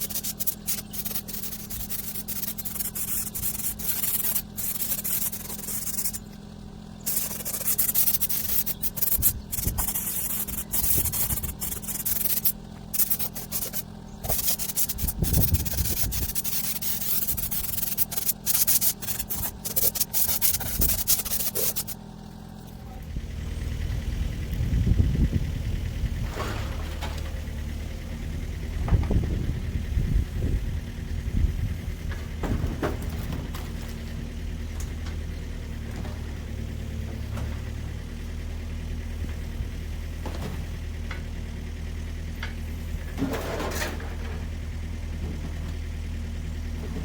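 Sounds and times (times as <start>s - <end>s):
low engine rumble: 0.0s - 47.0s.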